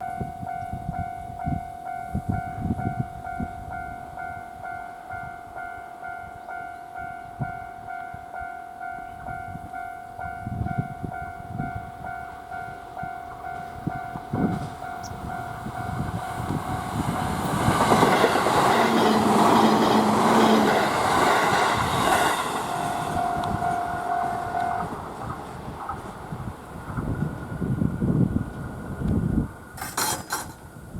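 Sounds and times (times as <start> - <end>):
level-crossing warning bell: 0.0 - 25.7
electric train passing: 0.0 - 30.9.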